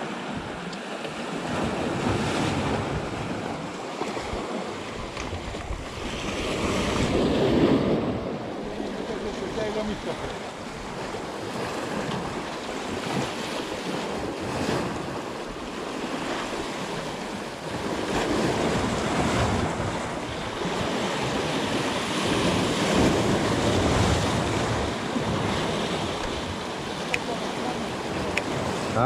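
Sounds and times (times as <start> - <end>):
waves breaking on rocks: 0.0 - 29.0
wind on microphone: 1.4 - 29.0.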